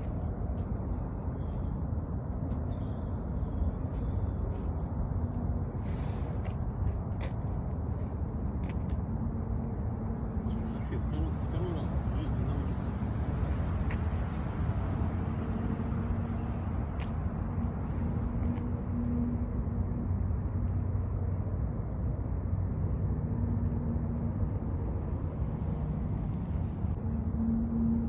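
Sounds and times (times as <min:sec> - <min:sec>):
motor vehicle engine rumble: 0:00.0 - 0:28.0.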